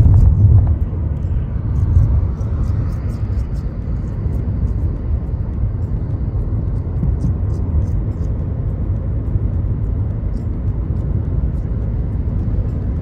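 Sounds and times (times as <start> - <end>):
car road rumble from inside: 0.0 - 13.0.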